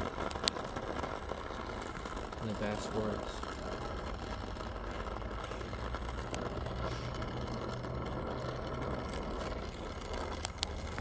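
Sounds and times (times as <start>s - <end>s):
torch flame rushing: 0.0s - 11.0s.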